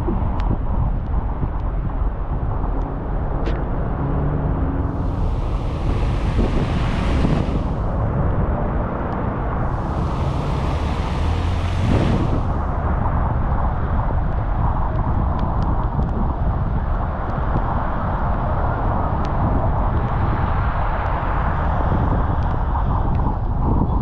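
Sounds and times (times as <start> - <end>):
car road noise in rain: 0.0 - 23.3.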